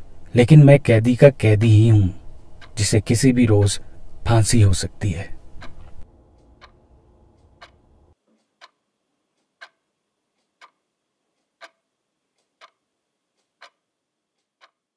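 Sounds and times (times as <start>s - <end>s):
clock ticking: 0.3s - 14.9s.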